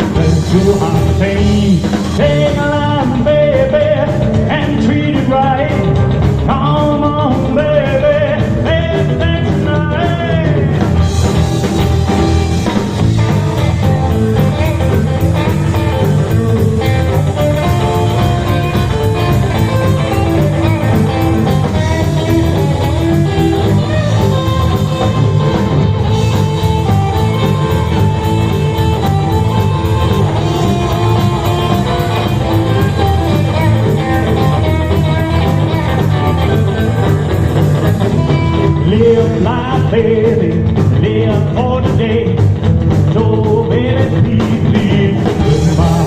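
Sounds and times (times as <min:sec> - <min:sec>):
bass guitar: 0:00.0 - 0:46.0
drums steady beat: 0:00.0 - 0:46.0
guitar lead: 0:00.0 - 0:46.0.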